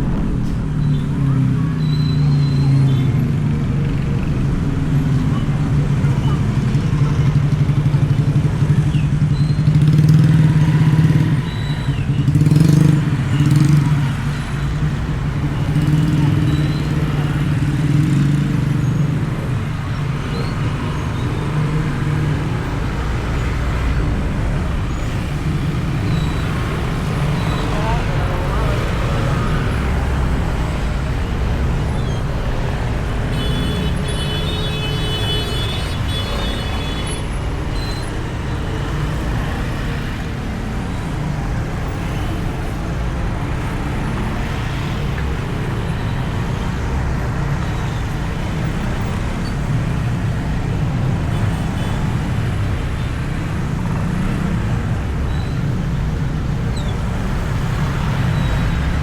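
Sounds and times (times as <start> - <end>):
wind and road rumble: 0.0 - 8.8, 12.3 - 59.0.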